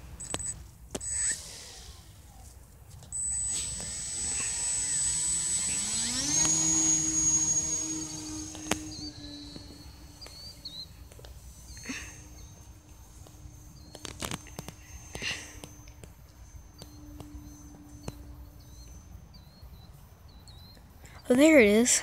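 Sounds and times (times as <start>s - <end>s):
model plane motor whining: 0.3s - 20.8s.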